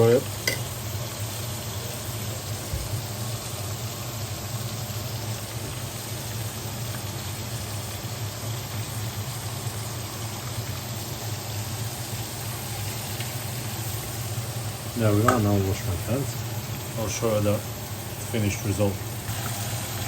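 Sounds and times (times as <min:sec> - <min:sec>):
chicken frying in hot oil: 0:00.0 - 0:20.0.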